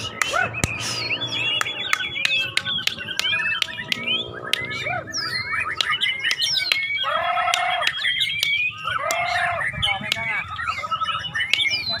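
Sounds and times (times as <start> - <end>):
sharp clicking notes: 0.0 - 10.7
birds whistling and trilling: 0.0 - 12.0
low drawn-out bird call: 0.0 - 12.0.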